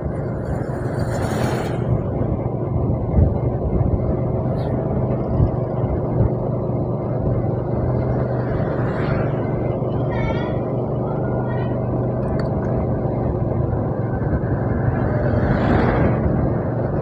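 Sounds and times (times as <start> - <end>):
road and wind noise: 0.0 - 17.0
vehicle engine hum: 0.0 - 17.0.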